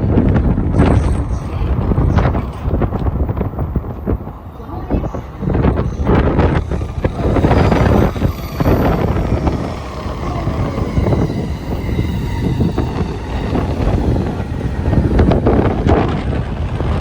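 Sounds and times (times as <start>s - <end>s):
electric train rumbling: 0.0s - 17.0s
wind buffeting microphone: 0.0s - 17.0s.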